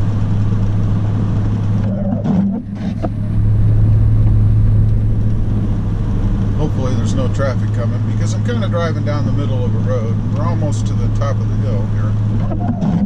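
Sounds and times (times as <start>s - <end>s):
in-cab engine drone: 0.0s - 13.0s
road noise: 0.0s - 13.0s.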